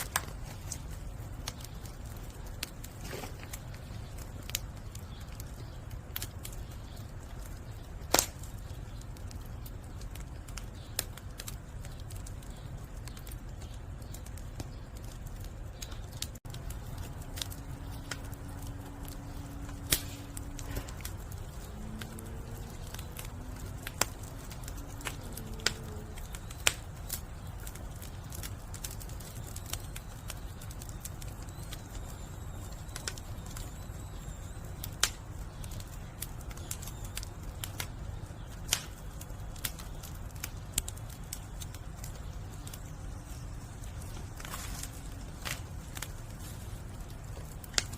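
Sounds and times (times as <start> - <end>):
fire crackling and popping: 0.0 - 47.9
fire rumbling: 0.0 - 47.9.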